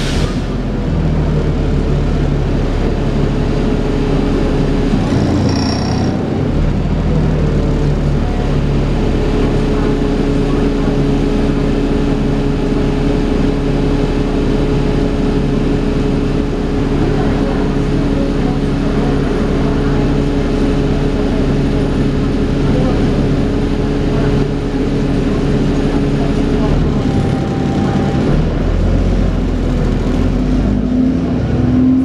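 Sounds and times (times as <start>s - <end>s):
bus engine whine: 0.0s - 32.0s.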